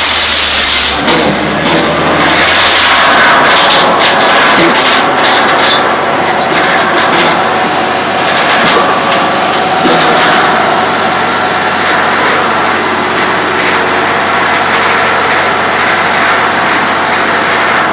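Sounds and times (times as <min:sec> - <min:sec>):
firewood processor running: 0:00.0 - 0:17.9.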